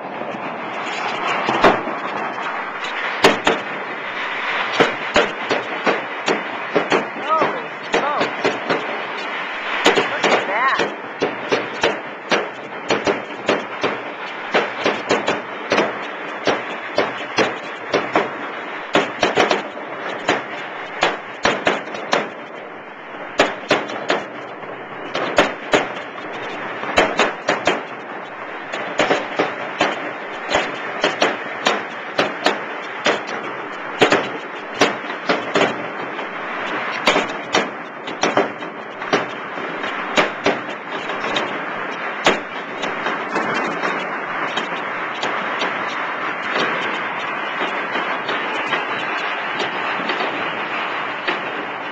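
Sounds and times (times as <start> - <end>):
fireworks bangs: 0.0 - 51.9
fireworks crackle and hiss: 0.0 - 51.9.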